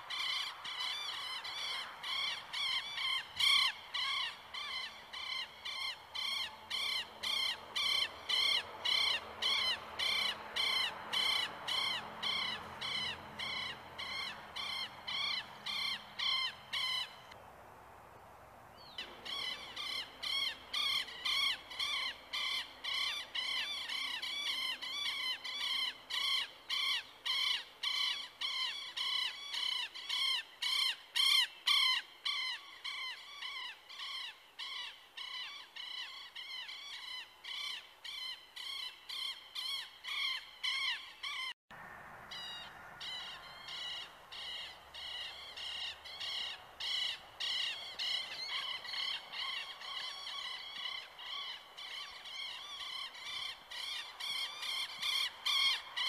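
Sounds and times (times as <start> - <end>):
bird calling: 0.0 - 17.4, 18.8 - 41.6, 42.3 - 56.0.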